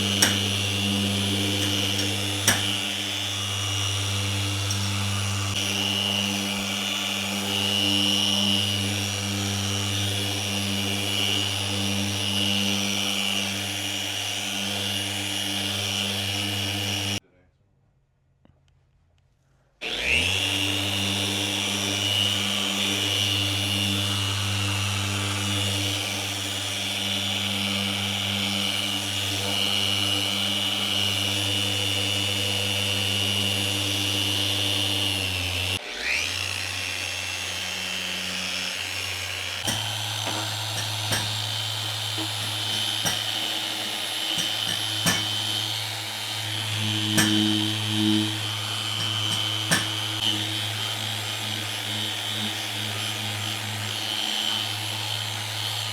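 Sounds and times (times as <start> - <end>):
electric power tool running: 0.0 - 17.2, 19.8 - 55.9.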